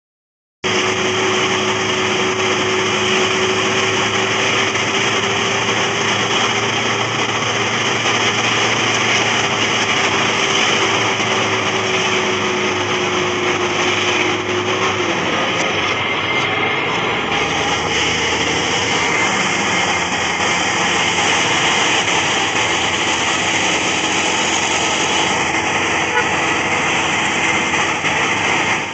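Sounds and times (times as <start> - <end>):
small engine whining: 0.7 - 28.9.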